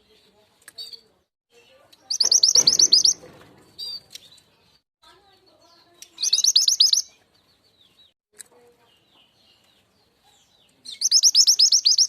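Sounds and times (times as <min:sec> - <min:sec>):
faint bird chirps: 0:00.8 - 0:03.2, 0:03.8 - 0:08.0, 0:08.6 - 0:12.0.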